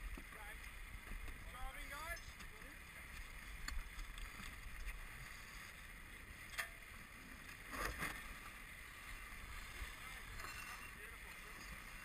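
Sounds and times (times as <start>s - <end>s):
rush of wind and water: 0.0s - 12.0s.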